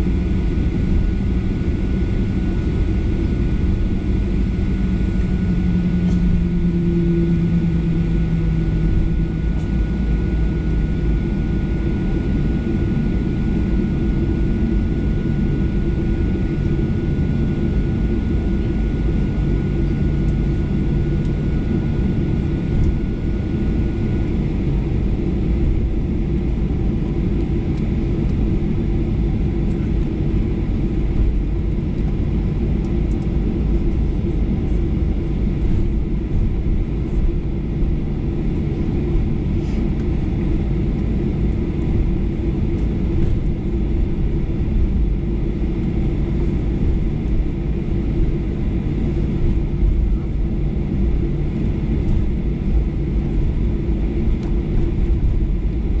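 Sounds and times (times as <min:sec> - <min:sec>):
jet engines idling: 0:00.0 - 0:56.0
low cabin rumble: 0:00.0 - 0:56.0.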